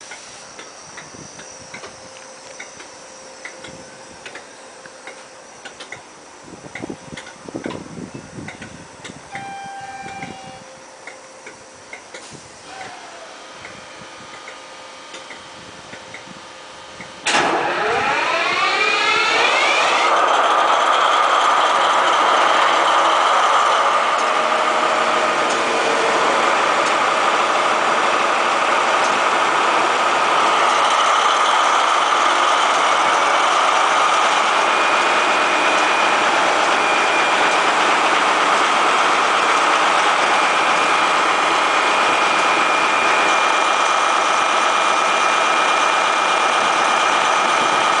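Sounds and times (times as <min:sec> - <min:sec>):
diesel engine idling with whine: 0:00.0 - 0:48.0.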